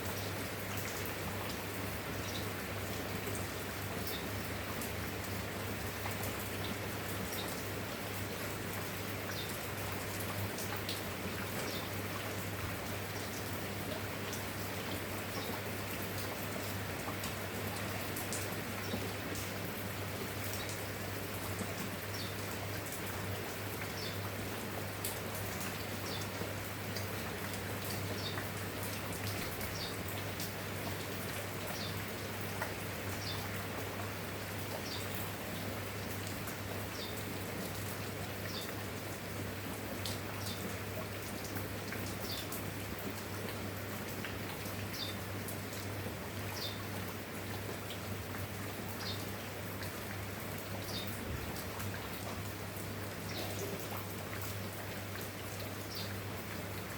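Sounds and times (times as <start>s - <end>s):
rain drops pattering: 0.0s - 56.9s.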